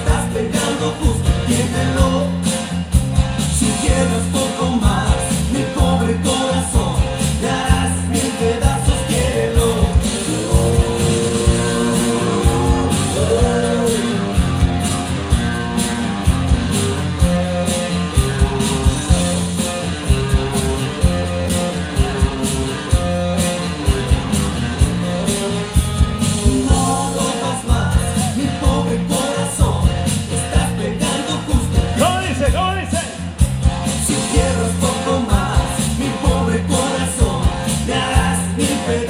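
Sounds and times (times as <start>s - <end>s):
latin dance music with singing: 0.0s - 39.0s.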